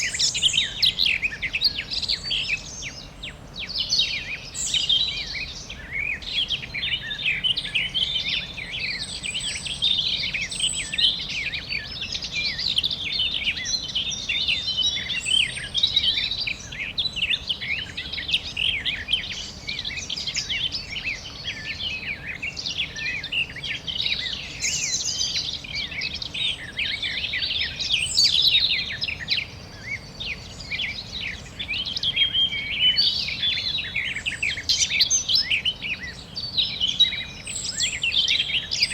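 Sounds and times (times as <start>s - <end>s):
birds chirping in chorus: 0.0s - 38.9s.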